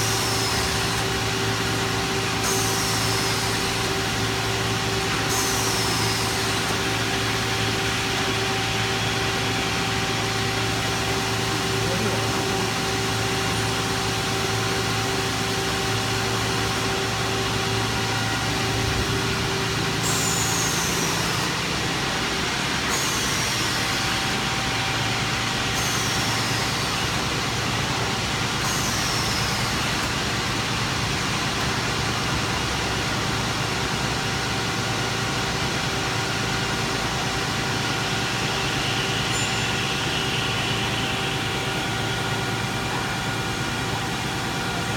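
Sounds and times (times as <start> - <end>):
falling high-pitched whines: 0.0 - 30.7, 37.0 - 44.8
machine hum: 0.0 - 44.9.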